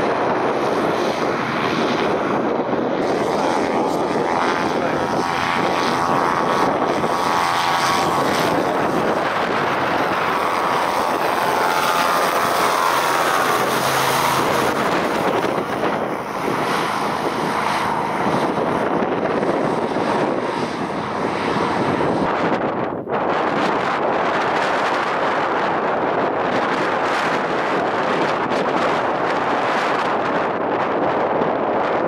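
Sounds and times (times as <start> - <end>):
hovercraft engines droning: 0.0 - 32.0
wind buffeting microphone: 0.0 - 32.0.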